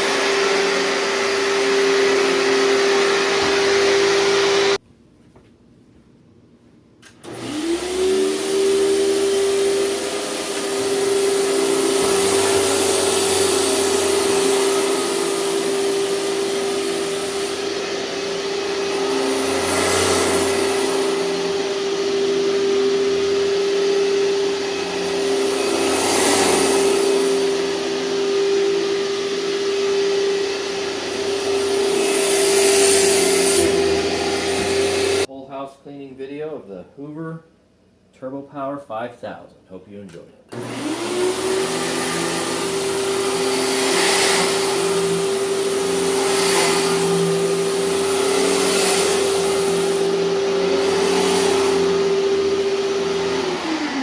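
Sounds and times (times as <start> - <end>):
vacuum cleaner motor whining: 0.0 - 4.8, 7.2 - 35.3, 40.5 - 54.0.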